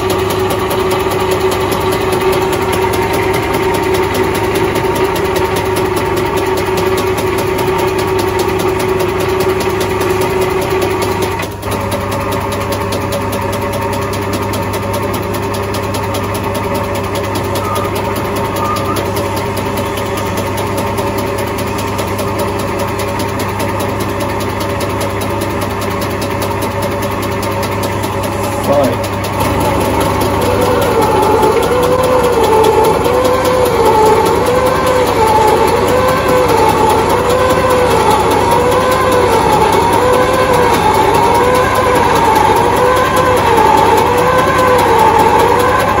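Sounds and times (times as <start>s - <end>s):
lathe running: 0.0s - 46.0s.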